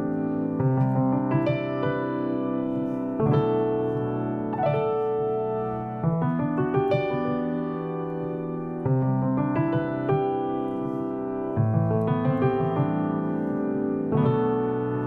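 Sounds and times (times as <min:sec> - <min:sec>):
keyboard playing sustained chords: 0:00.0 - 0:15.0.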